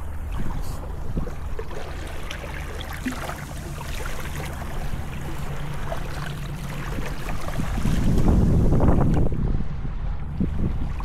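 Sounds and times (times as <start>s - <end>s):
small waves lapping on beach: 0.0s - 9.5s
low rumble: 0.0s - 11.0s.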